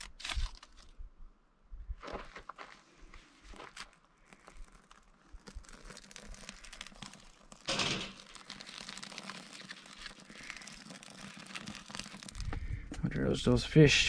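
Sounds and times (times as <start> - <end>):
burning bark crackling: 0.0 - 1.0, 2.5 - 13.9
dry bark rustling: 0.0 - 1.0, 2.0 - 13.0.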